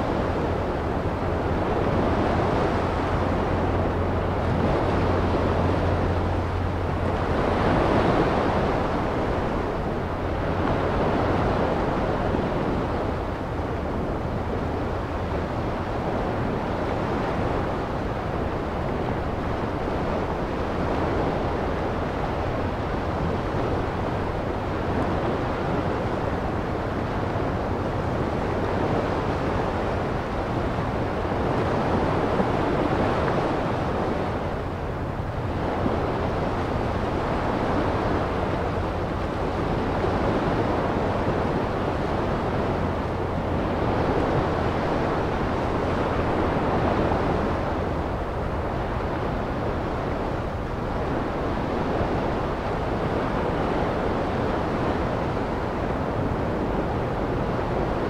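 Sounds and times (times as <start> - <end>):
ocean waves washing onto beach: 0.0 - 58.0.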